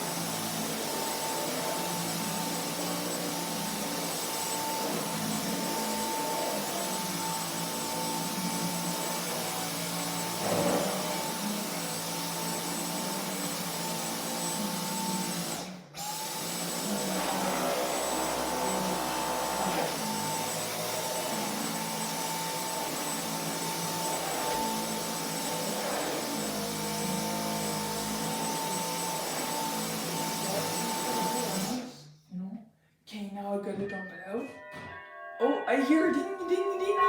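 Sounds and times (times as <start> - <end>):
vacuum cleaner whining: 0.0 - 32.1.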